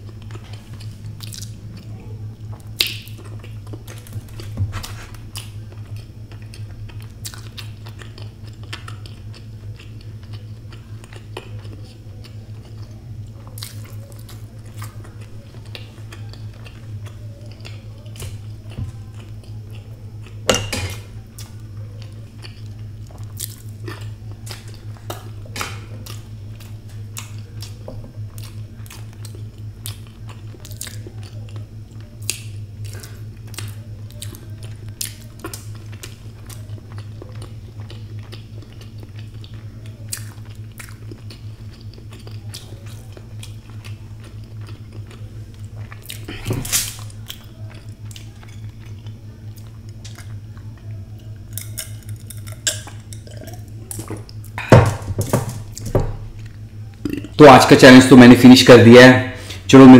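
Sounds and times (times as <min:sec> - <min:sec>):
close chewing: 0:00.0 - 0:20.4, 0:21.2 - 0:54.6
low steady hum: 0:00.0 - 0:59.9.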